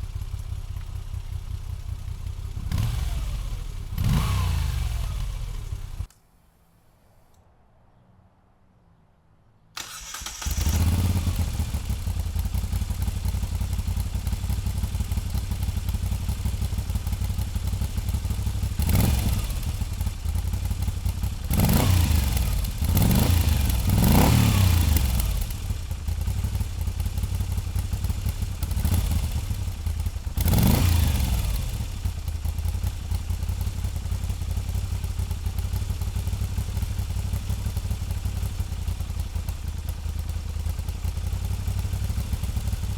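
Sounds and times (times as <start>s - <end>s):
motorcycle engine idling: 0.0s - 6.1s, 9.8s - 42.9s
motorcycle engine starting: 0.0s - 6.1s, 9.8s - 42.9s.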